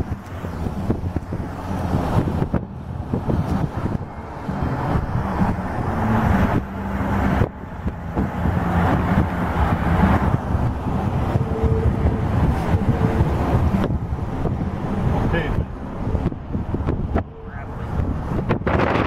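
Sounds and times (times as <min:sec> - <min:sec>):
car road and engine noise: 0:00.0 - 0:19.0
wind rushing over microphone: 0:00.0 - 0:19.0.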